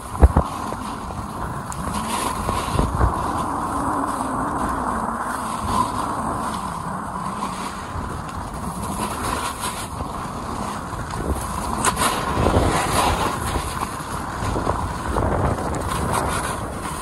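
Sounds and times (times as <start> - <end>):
skis sliding on snow: 0.0 - 17.0
wind buffeting microphone: 0.0 - 17.0.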